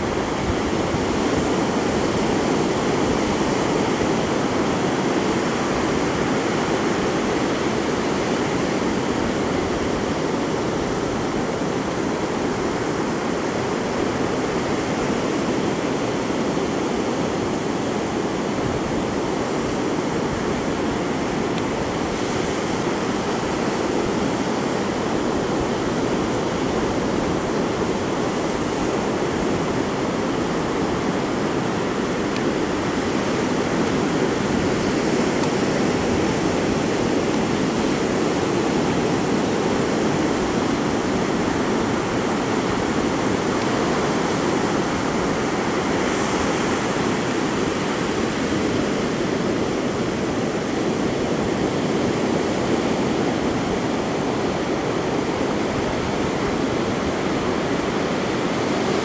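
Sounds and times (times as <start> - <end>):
waves washing over sand: 0.0 - 59.0.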